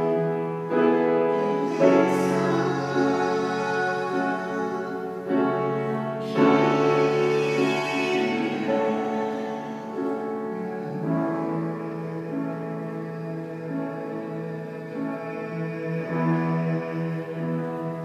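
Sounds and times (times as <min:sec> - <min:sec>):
slow sacred music with piano: 0:00.0 - 0:18.0.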